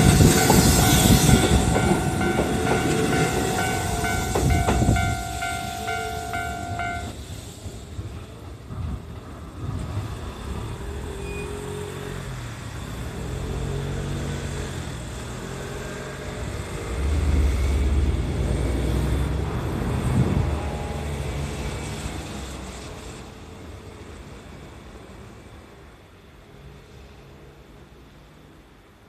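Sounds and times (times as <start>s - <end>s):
electric train rumbling over points: 0.0s - 28.8s
road traffic: 0.0s - 29.0s.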